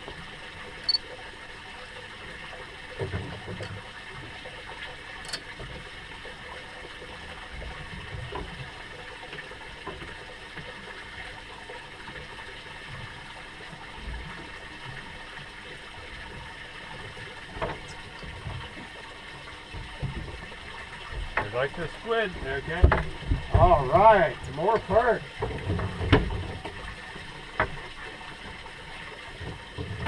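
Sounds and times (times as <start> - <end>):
water lapping against boat hull: 0.0 - 30.0.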